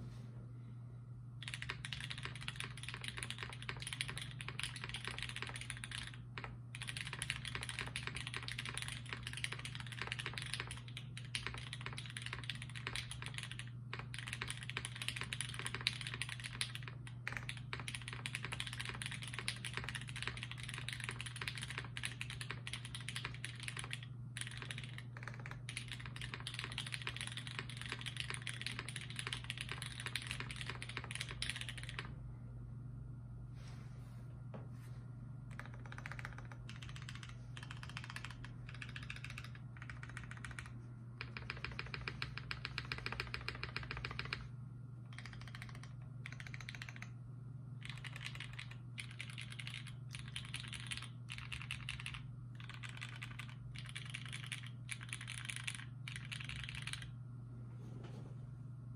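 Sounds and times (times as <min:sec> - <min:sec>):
mechanical keyboard typing: 0:01.4 - 0:32.1, 0:35.5 - 0:44.5, 0:45.1 - 0:47.2, 0:47.8 - 0:57.2.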